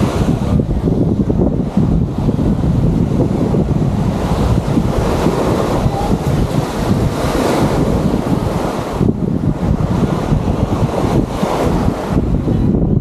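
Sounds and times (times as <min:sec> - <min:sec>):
small waves washing on shore: 0:00.0 - 0:12.6
wind buffeting microphone: 0:00.0 - 0:13.0.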